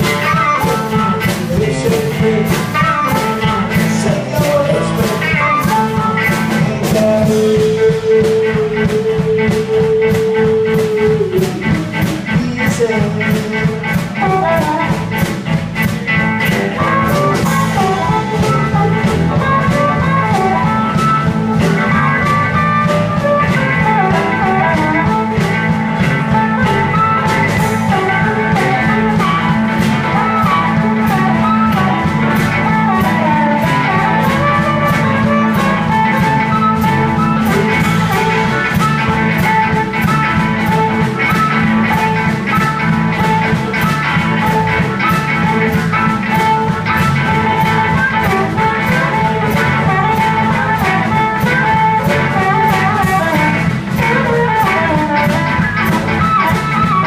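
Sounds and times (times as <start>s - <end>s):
amplified harmonica: 0.0s - 57.0s
blues band playing: 0.0s - 57.0s.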